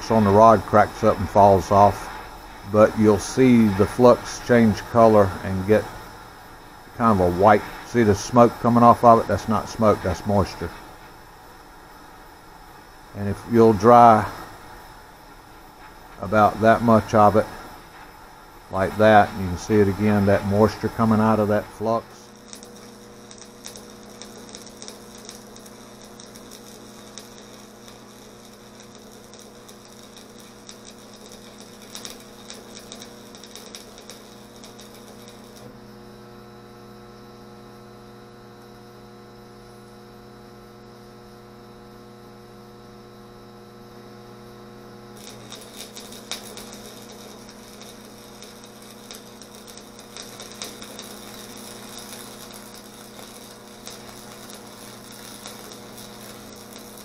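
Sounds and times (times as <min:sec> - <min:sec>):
mains hum: 0:00.0 - 0:57.0
welding arc crackling: 0:00.0 - 0:57.0.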